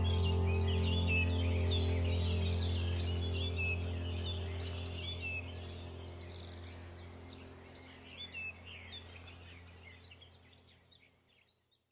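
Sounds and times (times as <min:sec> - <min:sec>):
birds chirping and calling: 0:00.0 - 0:11.6
low steady hum: 0:00.0 - 0:11.7.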